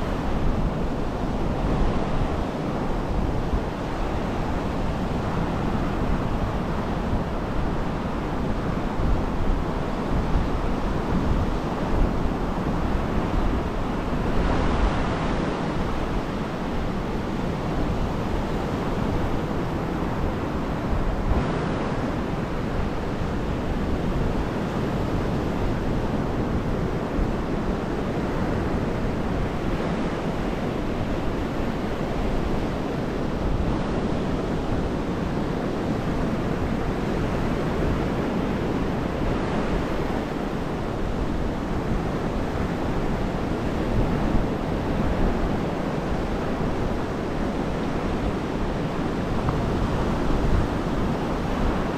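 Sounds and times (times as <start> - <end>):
wind rumbling on microphone: 0.0 - 51.9.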